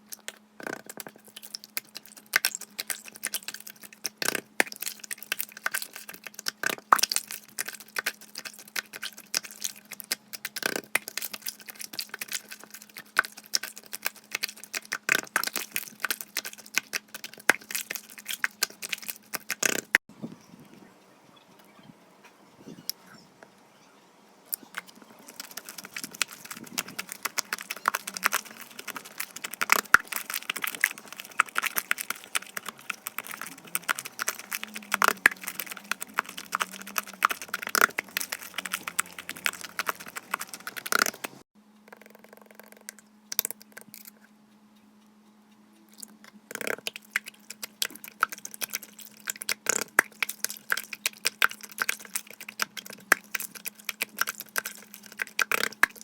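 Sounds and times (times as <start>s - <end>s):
slime clicking and popping: 0.1s - 20.0s, 24.5s - 41.4s, 46.0s - 56.0s.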